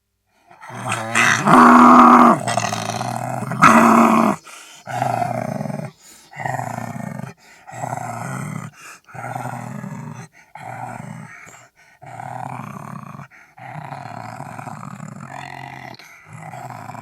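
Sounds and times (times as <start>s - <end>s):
wolf growling: 0.5s - 17.0s.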